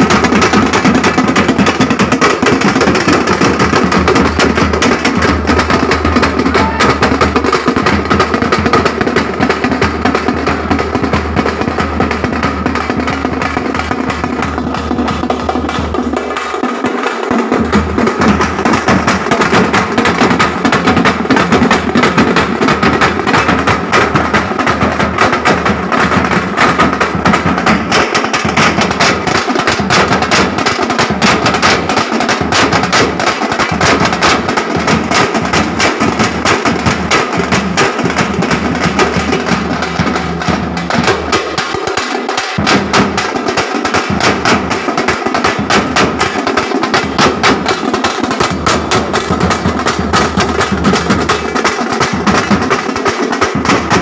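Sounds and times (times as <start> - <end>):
drummers beating large drums: 0.0 - 54.0.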